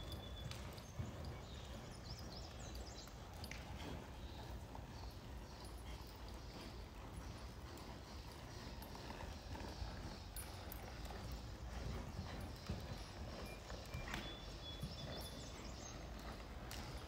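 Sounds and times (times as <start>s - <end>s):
hoof click: 0.0s - 17.0s
horse hoofbeats on sand: 0.0s - 17.0s.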